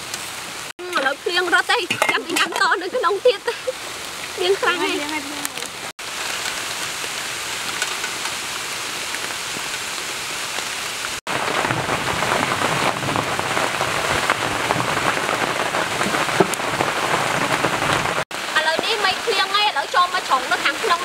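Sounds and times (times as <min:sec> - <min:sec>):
rain falling on trees and grass: 0:00.0 - 0:21.0.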